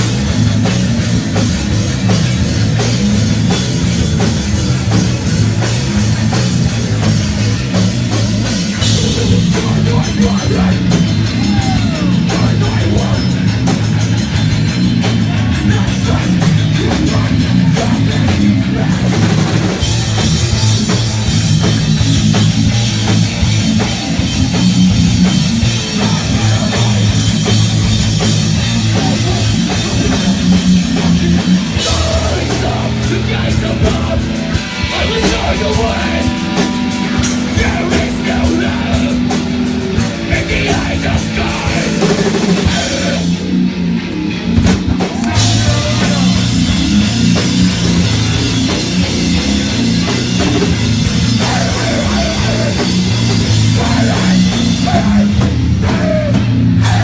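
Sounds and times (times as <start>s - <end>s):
fast drumming: 0.0s - 43.7s, 44.4s - 57.0s
bass guitar: 0.0s - 57.0s
distorted electric guitars: 0.0s - 57.0s.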